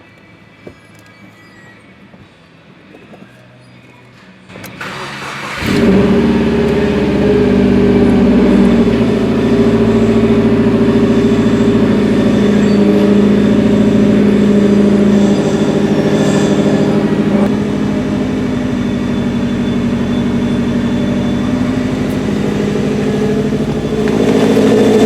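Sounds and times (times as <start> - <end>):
car engine cranking and idling: 4.5 - 25.0.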